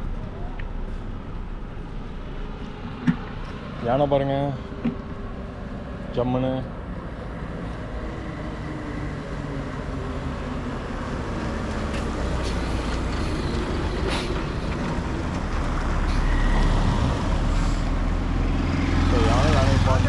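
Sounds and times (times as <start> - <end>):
car engine and tyre noise: 0.0 - 20.0
truck driving past: 0.0 - 20.0.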